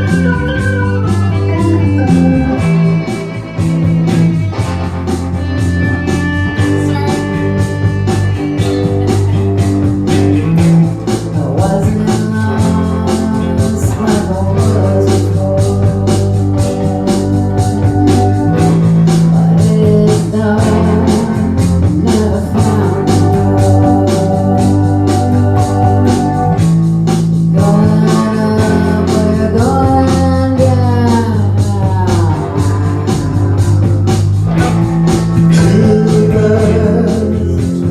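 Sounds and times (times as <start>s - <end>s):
rock band playing: 0.0s - 37.9s.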